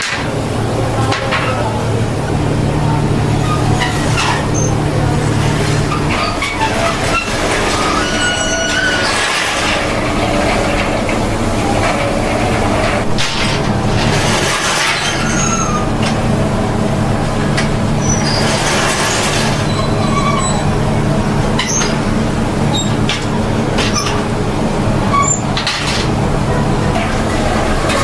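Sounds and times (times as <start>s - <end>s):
machine humming: 0.0s - 28.0s.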